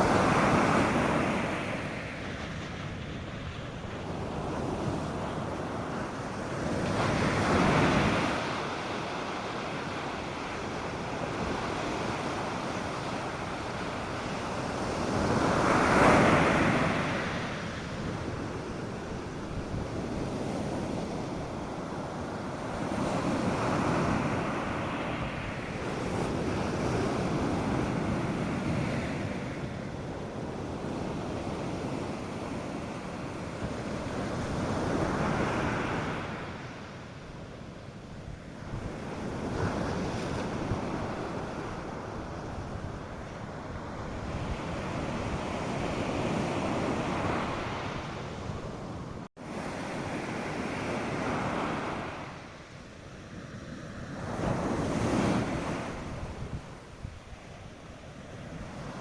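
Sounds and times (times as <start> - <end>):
light wind: 0.0 - 59.0
waves breaking on a beach: 0.0 - 59.0.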